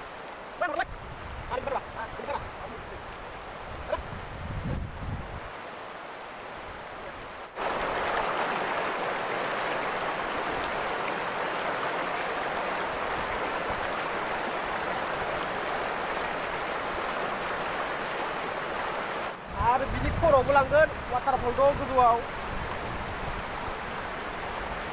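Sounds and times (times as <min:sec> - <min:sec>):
river rushing over stones: 0:00.0 - 0:24.9.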